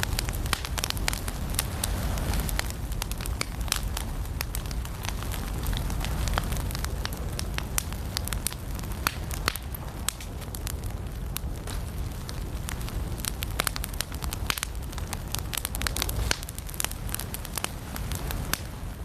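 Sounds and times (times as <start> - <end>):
firewood crackling and popping: 0.0 - 19.0
low rumble of flames: 0.0 - 19.0.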